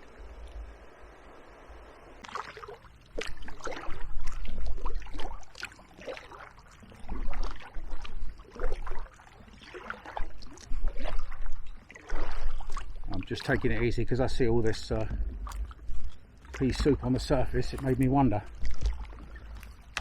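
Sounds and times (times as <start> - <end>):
paddle splashing in water: 2.2 - 20.0.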